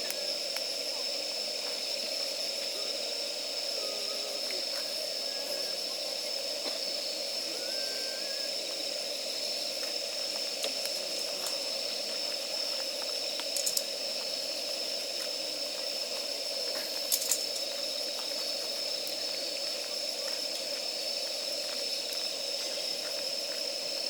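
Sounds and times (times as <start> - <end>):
fire crackles: 0.0 - 24.0
wood fire hissing: 0.0 - 24.0.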